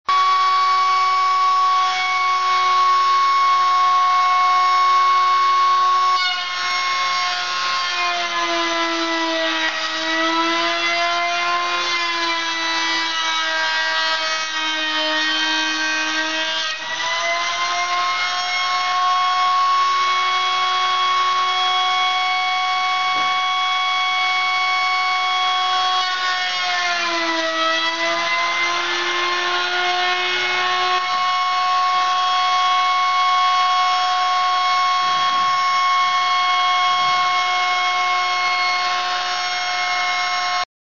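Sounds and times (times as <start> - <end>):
router cutting wood: 0.1 - 40.7.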